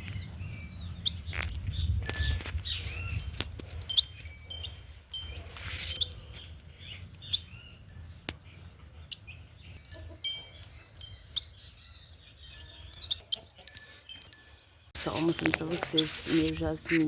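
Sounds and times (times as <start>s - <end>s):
sharp loud bird calls: 0.0s - 14.7s
small birds chirping: 0.0s - 17.0s.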